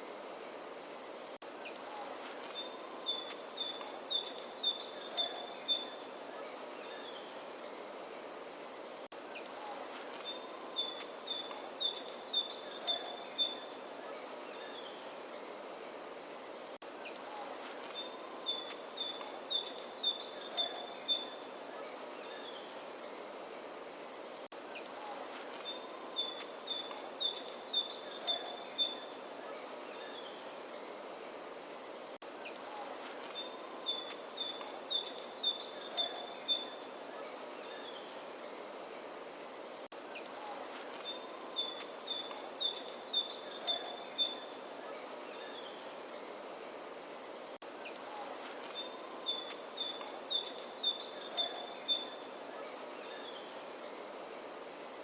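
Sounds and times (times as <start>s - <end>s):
faint steady hiss: 0.0s - 55.0s
songbird singing: 0.0s - 55.0s.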